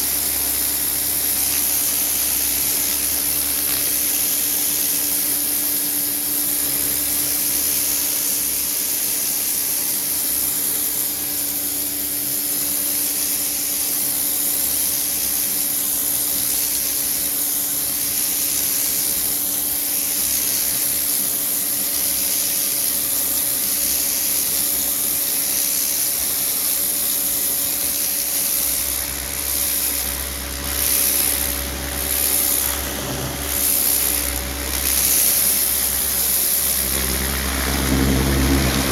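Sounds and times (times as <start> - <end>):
pressure washer motor hum: 0.0 - 38.9
water jet spraying: 0.0 - 38.9.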